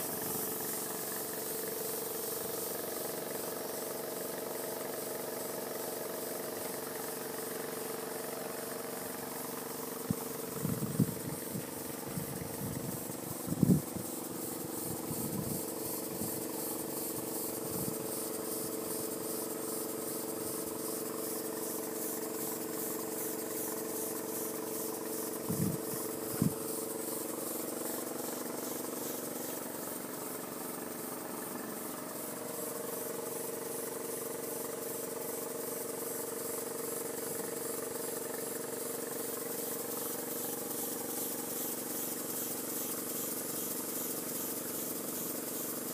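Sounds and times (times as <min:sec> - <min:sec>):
steam engine running on air: 0:00.0 - 0:45.9.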